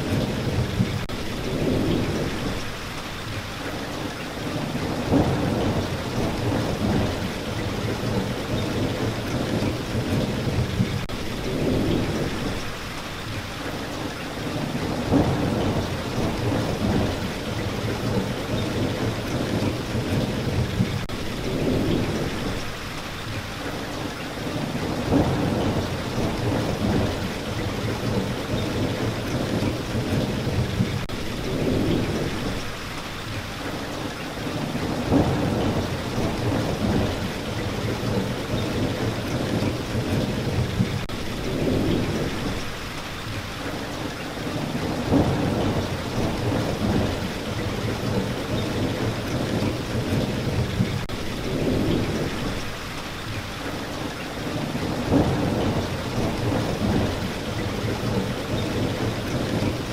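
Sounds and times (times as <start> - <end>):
rolling thunder: 0.0 - 2.8, 4.4 - 12.8, 14.4 - 22.8, 24.4 - 32.8, 34.4 - 42.8, 44.0 - 52.8, 54.4 - 59.9
heavy rain: 0.0 - 59.9.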